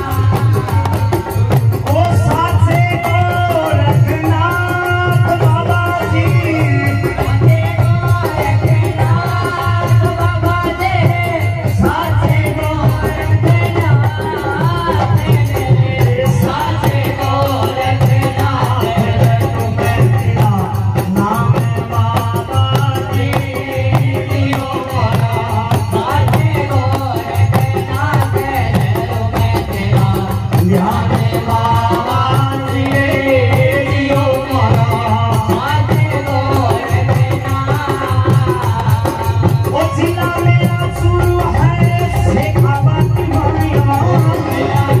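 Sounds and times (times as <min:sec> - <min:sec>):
man singing: 0:00.0 - 0:45.0.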